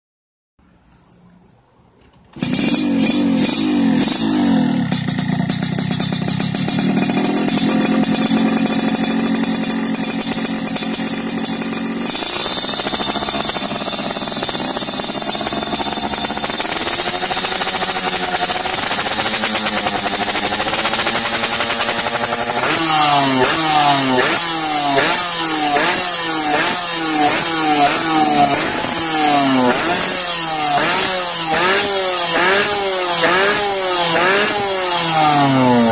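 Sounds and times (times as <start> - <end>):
motorcycle engine idling and revving: 2.3 - 35.9
engine throttle blips: 2.4 - 35.9.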